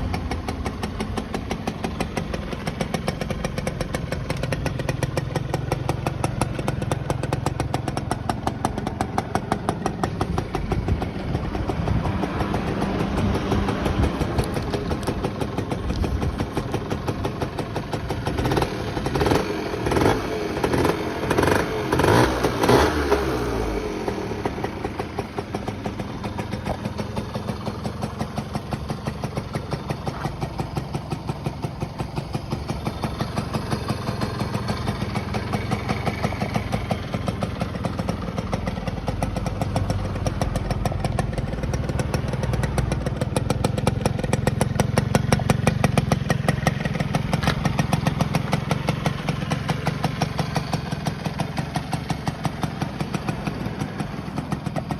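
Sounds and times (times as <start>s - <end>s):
two-stroke engine revving and running: 0.0s - 54.9s.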